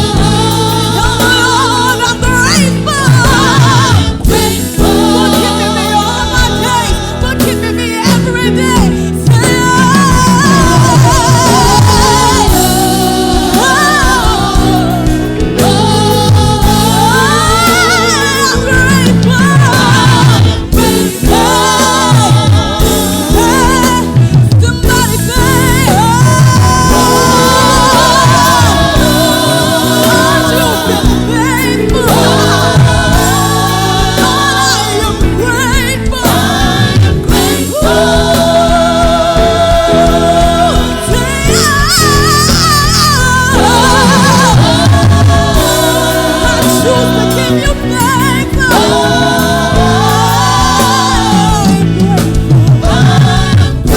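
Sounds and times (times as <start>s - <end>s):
instrumental accompaniment with bass: 0.0s - 53.9s
voices singing with vibrato: 0.0s - 53.9s.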